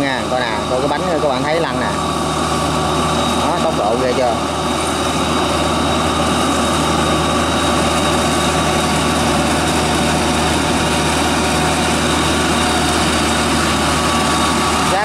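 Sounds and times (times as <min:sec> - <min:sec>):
tracked tiller engine running: 0:00.0 - 0:15.0.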